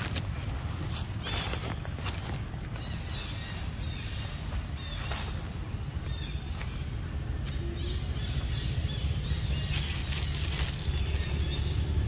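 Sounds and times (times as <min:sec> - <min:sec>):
steady low rumble: 0:00.0 - 0:12.0
bird chirps: 0:01.2 - 0:12.0.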